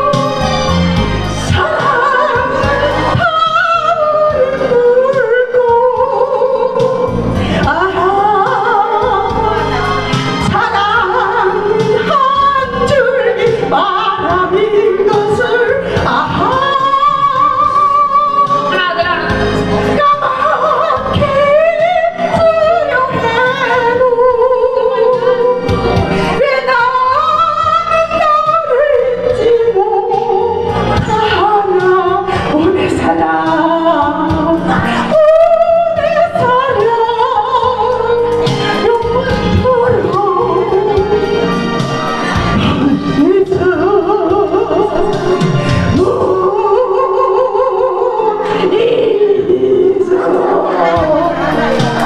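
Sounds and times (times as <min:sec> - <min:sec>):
recorded backing track: 0:00.0 - 0:52.0
woman singing into a microphone: 0:00.0 - 0:52.0.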